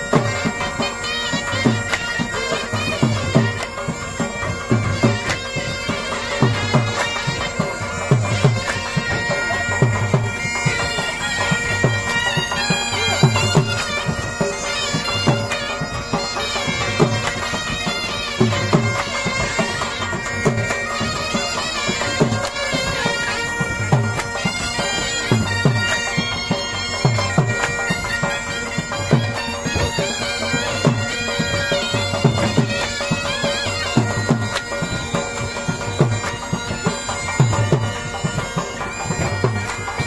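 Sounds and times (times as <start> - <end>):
bagpipe melody with drones: 0.0 - 40.0
drum beating: 0.0 - 40.0.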